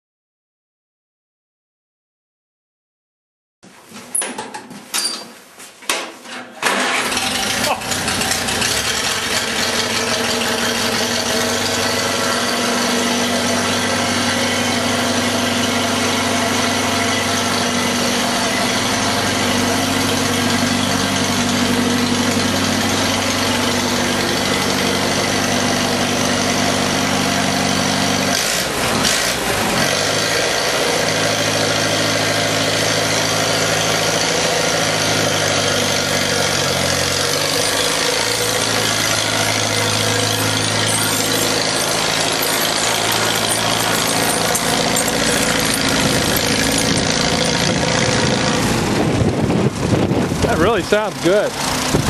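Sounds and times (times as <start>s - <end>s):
tractor engine idling: 6.6s - 52.0s.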